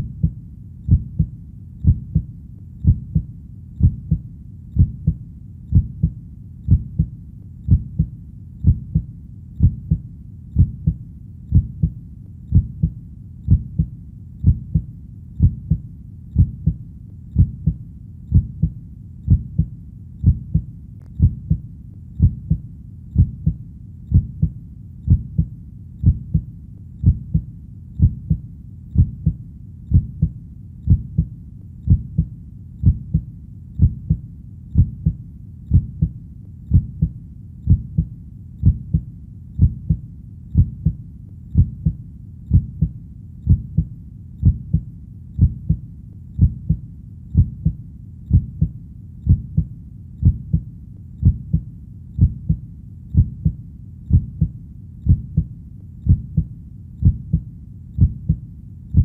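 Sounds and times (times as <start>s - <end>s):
heartbeat thuds: 0.0s - 21.6s, 22.2s - 45.8s, 46.4s - 59.0s.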